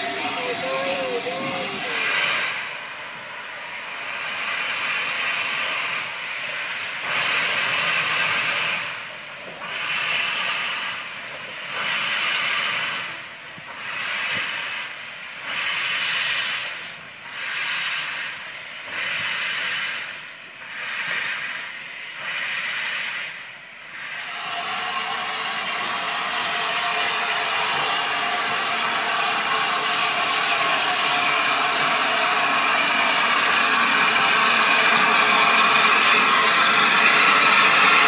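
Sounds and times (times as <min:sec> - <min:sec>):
steam hissing in bursts: 0:00.0 - 0:38.0
steam locomotive moving slowly: 0:00.0 - 0:38.0.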